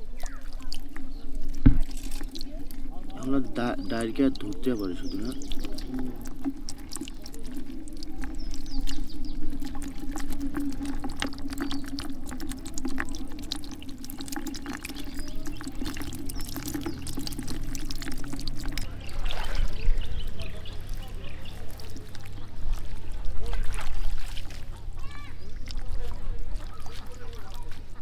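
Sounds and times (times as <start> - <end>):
water pouring and splashing: 0.0 - 28.0.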